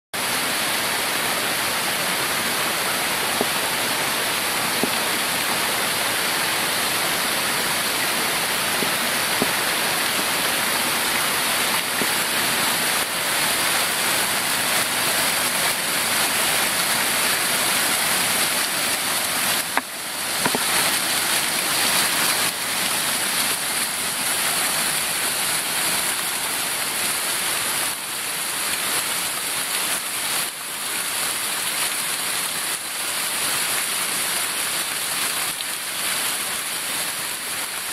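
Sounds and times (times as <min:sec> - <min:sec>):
waterfall splashing over rock: 0:00.2 - 0:37.9.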